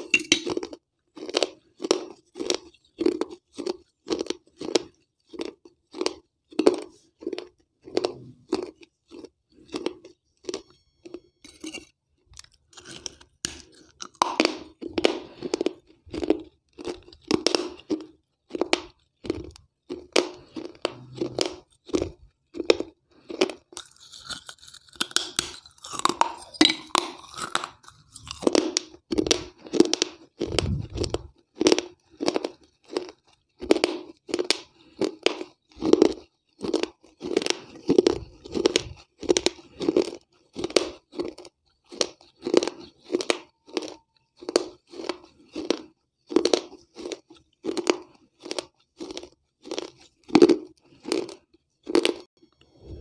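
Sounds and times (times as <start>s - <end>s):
chewing and crunching clay pieces: 0.0s - 53.0s.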